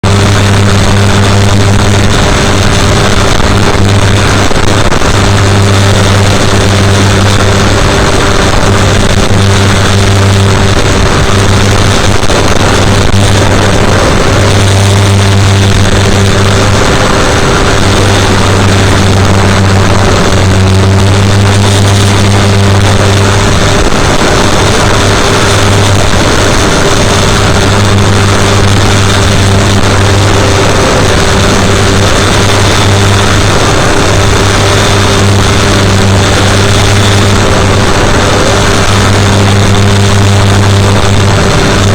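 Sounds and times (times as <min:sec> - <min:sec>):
drone propeller droning: 0:00.0 - 0:41.9
wind rush: 0:00.0 - 0:41.9.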